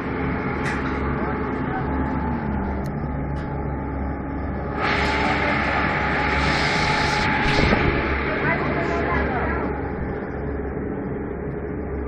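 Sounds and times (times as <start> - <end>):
churning prop wash: 0.0 - 11.8
outboard motors droning: 0.0 - 12.0.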